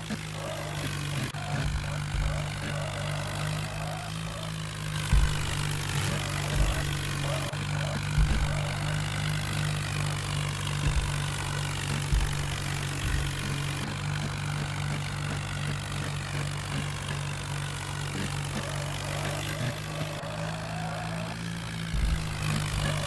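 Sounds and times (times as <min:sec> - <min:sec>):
tractor diesel engine running: 0:00.0 - 0:23.0
low thumps: 0:00.9 - 0:19.0, 0:21.8 - 0:23.0.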